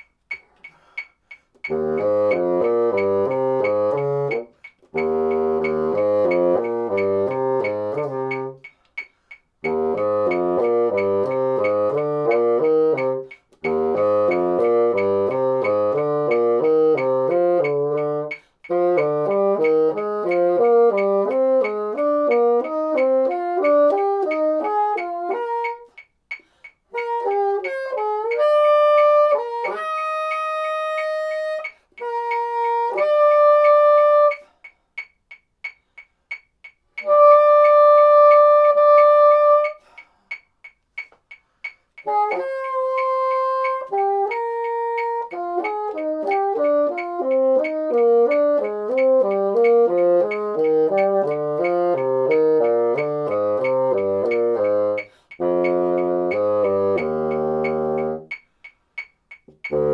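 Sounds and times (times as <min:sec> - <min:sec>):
metronome ticking: 0:00.0 - 0:59.9
bassoon playing: 0:01.6 - 0:08.8, 0:09.6 - 0:34.5, 0:37.0 - 0:40.0, 0:42.0 - 0:58.5, 0:59.5 - 0:59.9.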